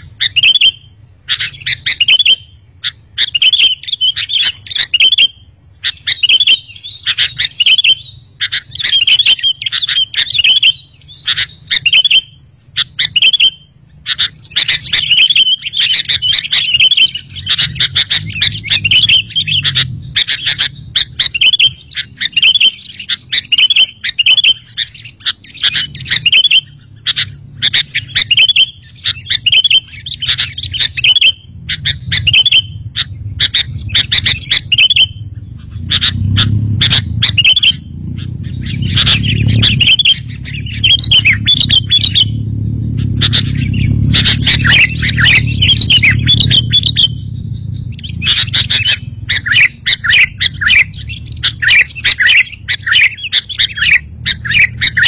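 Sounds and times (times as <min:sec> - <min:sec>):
bird bubbly chirping: 0:00.0 - 0:02.6, 0:03.2 - 0:55.0.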